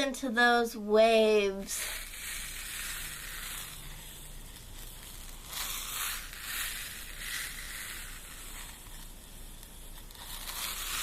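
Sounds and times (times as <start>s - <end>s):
beads rolling in a glass jar: 1.6s - 11.0s.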